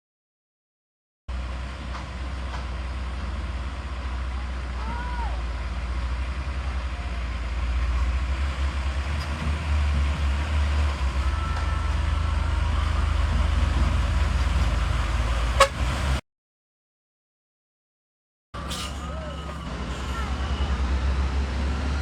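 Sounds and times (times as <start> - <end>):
heavy truck engine rumbling: 1.3 - 16.2, 18.6 - 22.0
road noise: 1.3 - 16.2, 18.6 - 22.0.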